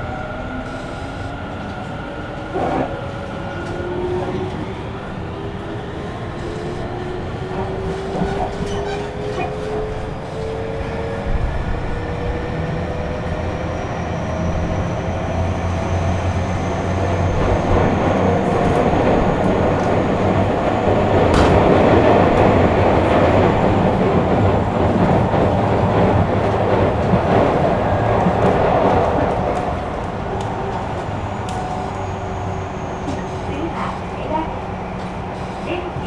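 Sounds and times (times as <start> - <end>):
wheels rolling on rail: 0.0 - 36.0.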